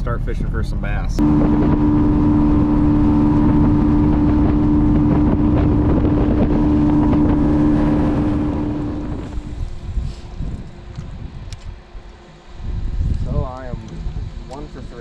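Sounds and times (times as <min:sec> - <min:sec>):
wind buffeting microphone: 0:00.4 - 0:15.0
outboard motor running: 0:01.1 - 0:14.9.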